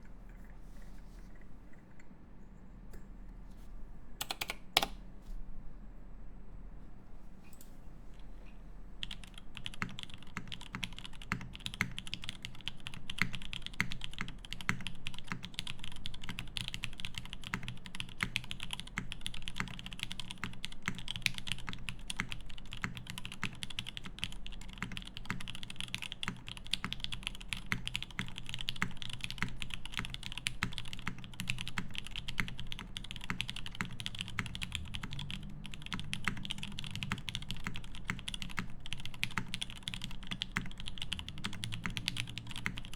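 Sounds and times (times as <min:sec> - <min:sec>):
fast mechanical keyboard typing: 0:04.2 - 0:05.0, 0:09.0 - 0:42.9.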